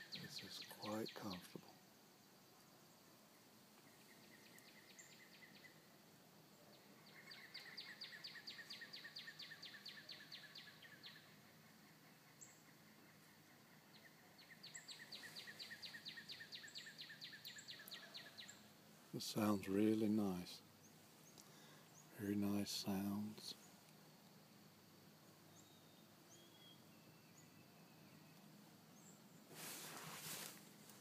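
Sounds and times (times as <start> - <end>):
faint outdoor background: 0.0 - 31.0.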